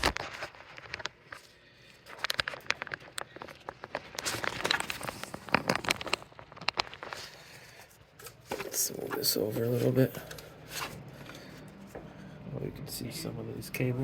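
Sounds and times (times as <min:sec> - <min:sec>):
cables rustling: 0:00.0 - 0:12.5.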